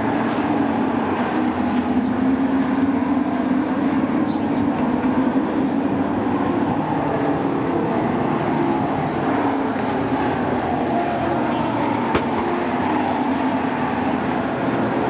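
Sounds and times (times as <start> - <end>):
racing truck engines droning: 0.0 - 15.0.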